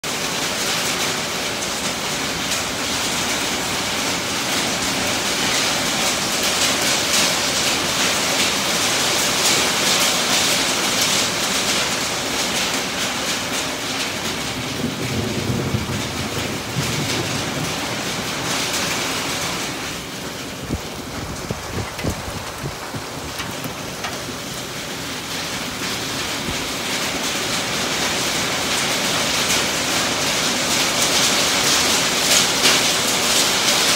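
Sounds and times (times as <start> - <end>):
heavy rain on a tin roof: 0.0 - 33.9.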